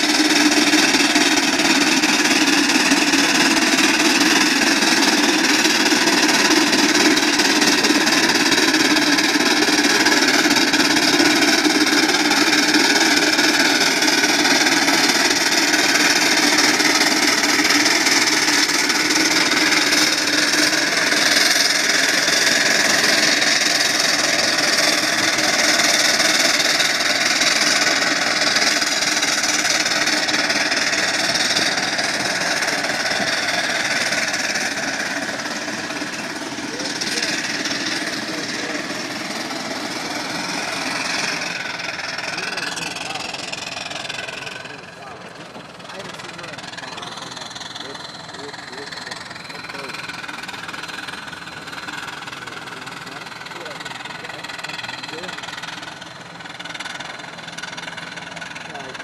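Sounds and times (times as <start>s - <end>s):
steam traction engine chuffing: 0.0s - 59.0s.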